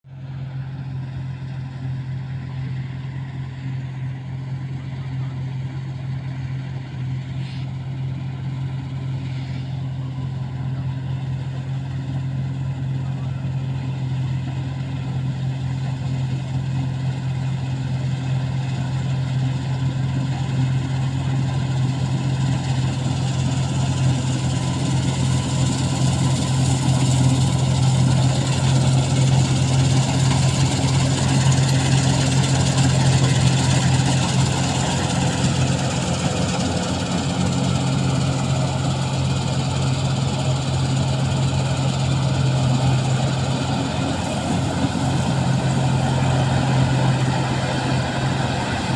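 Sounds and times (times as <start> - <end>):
harvesting machine engine drone: 0.1 - 48.9.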